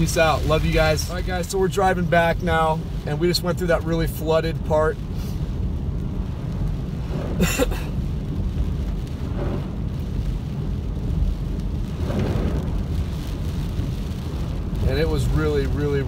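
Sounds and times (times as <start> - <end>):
engine and tyres on wet road: 0.0 - 16.0
windshield wipers sweeping: 0.0 - 16.0.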